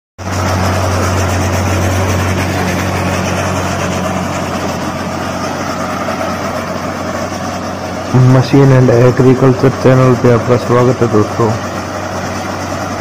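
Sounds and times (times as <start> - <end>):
noisy wash: 0.2 - 13.0
trenching machine engine droning: 0.2 - 13.0.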